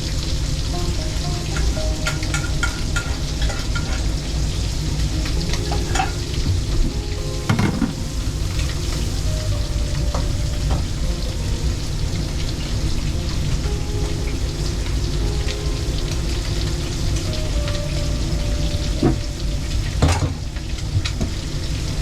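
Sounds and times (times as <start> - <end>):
food sizzling while stirred: 0.0 - 22.0.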